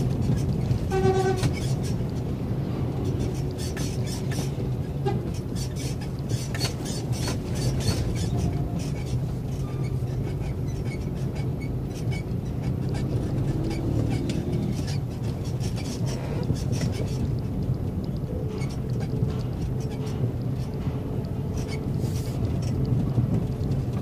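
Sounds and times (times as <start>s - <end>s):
engine and road drone: 0.0s - 24.0s.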